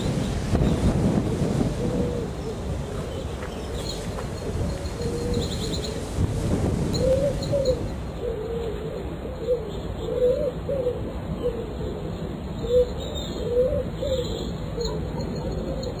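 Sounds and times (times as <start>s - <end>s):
pigeon cooing: 1.7s - 6.0s, 6.9s - 16.0s.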